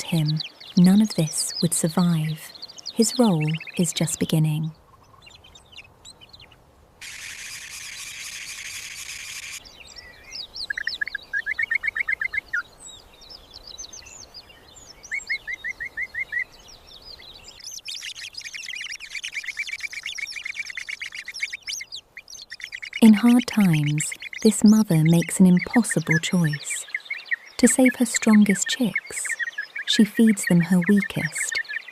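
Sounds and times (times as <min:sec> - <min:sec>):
bird trilling: 0:00.0 - 0:12.7, 0:17.4 - 0:31.9
small birds chirping: 0:00.0 - 0:31.9.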